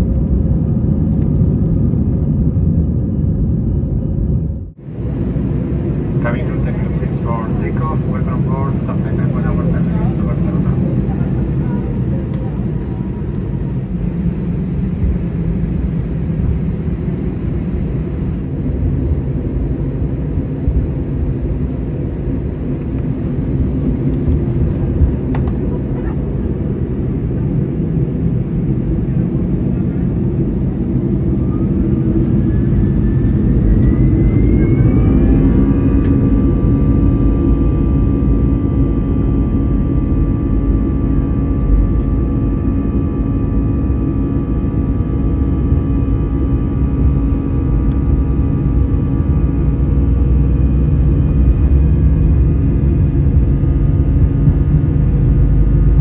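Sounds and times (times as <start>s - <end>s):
jet engine taxi rumble: 0.0s - 56.0s
jet engines whining: 0.1s - 56.0s.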